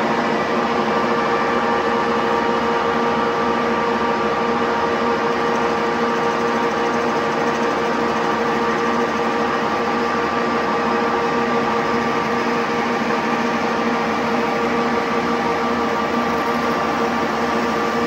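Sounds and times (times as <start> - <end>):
constant whine: 0.0 - 18.0
metal lathe humming: 0.0 - 18.0.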